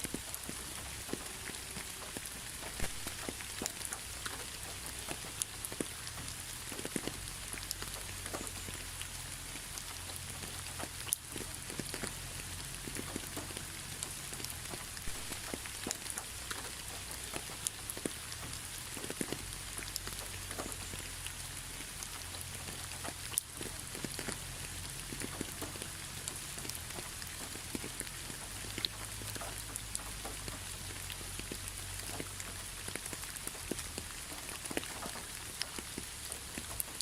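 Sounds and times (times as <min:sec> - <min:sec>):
raindrops ticking: 0:00.0 - 0:37.0
steady rain hiss: 0:00.0 - 0:37.0.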